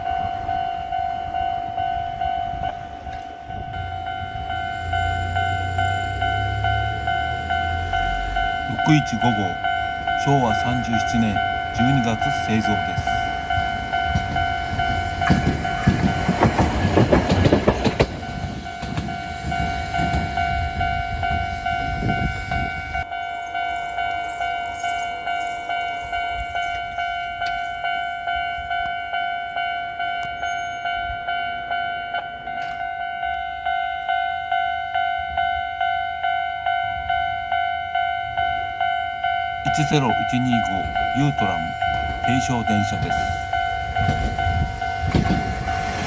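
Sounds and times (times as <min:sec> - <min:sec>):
level crossing bell clanging: 0:00.0 - 0:46.0
tram rumbling on steel wheels: 0:00.0 - 0:46.0.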